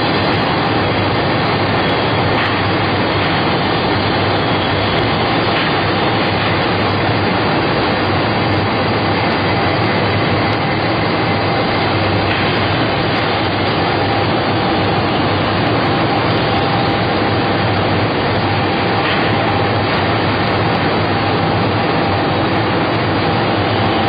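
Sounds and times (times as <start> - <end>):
faint machine whine: 0.0 - 24.0
machine mechanical din: 0.0 - 24.0.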